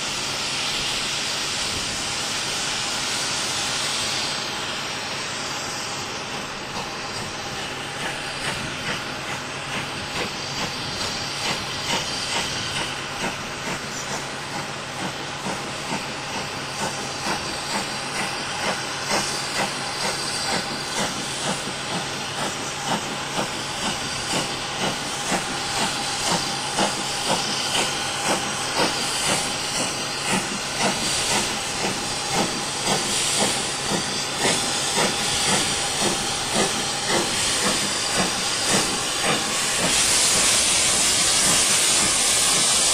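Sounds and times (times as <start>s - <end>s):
steam hissing: 0.0s - 42.9s
steam locomotive chuffing: 0.0s - 42.9s.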